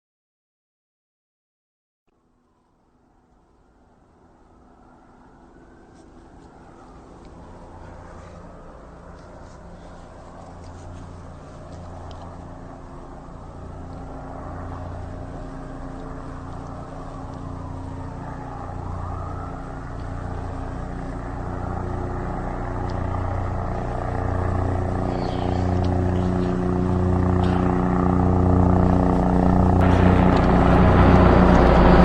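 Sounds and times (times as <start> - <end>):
helicopter running: 2.2 - 32.0.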